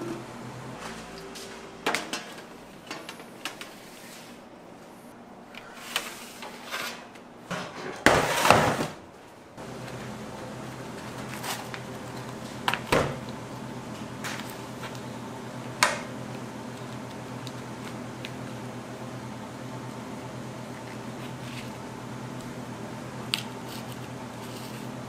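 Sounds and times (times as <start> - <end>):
steady machine hum: 0.0 - 6.0, 9.4 - 25.0.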